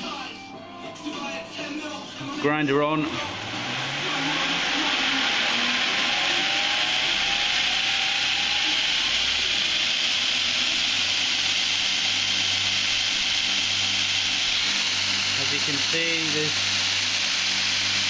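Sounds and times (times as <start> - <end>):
belt grinder running: 3.0 - 18.0
faint rising whine: 3.0 - 18.0
water jet hissing: 3.2 - 18.0.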